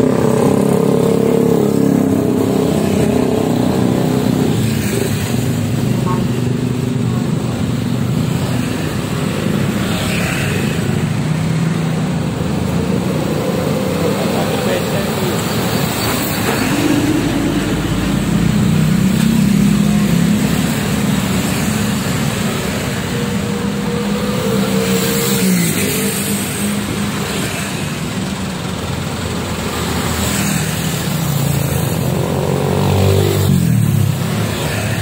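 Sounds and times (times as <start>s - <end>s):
cars passing: 0.0s - 35.0s
heavy truck engine passing: 0.0s - 35.0s
motorbike engines passing: 0.0s - 35.0s.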